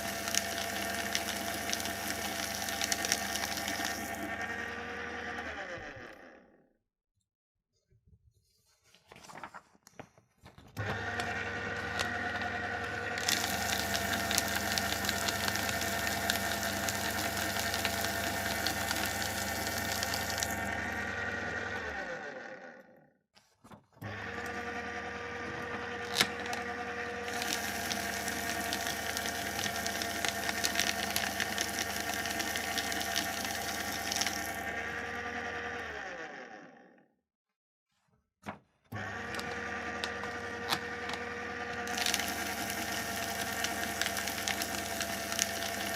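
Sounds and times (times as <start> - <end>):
paper shredder running: 0.0 - 6.6, 10.7 - 37.1, 38.9 - 45.9.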